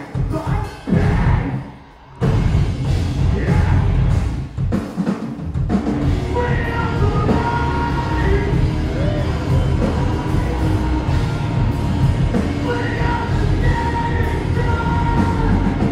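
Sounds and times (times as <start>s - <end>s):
metal band playing live: 0.0s - 15.9s
pounding drums: 2.2s - 15.9s.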